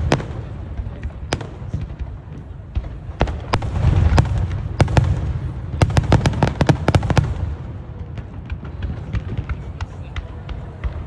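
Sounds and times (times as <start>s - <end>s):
fireworks booms: 0.0s - 11.0s
fireworks sharp cracks: 0.0s - 11.0s.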